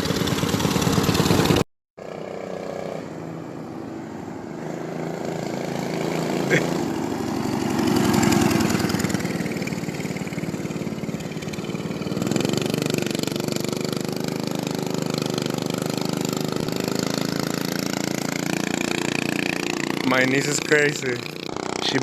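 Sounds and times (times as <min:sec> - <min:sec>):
mini bike engine running: 0:00.0 - 0:22.0.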